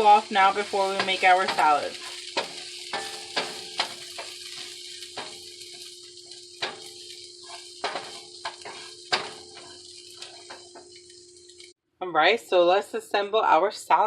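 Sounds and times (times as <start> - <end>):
chicken sizzling in a frying pan: 0.0 - 11.8
sharp pops and crackles: 0.4 - 11.8.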